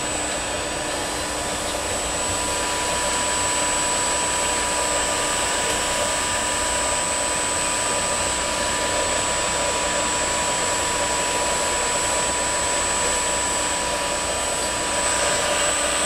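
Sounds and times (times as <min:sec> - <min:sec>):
variable-frequency drive whirring: 0:00.0 - 0:16.0.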